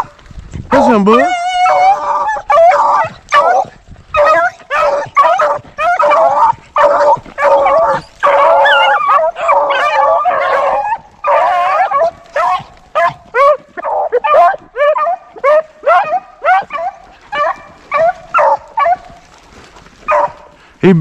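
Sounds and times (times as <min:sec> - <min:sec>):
hounds baying and howling: 0:00.0 - 0:20.6.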